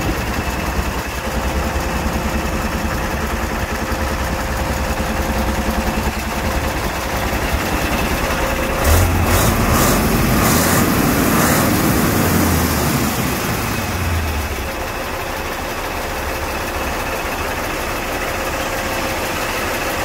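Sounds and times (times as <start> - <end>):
truck diesel engine idling: 0.0 - 20.0.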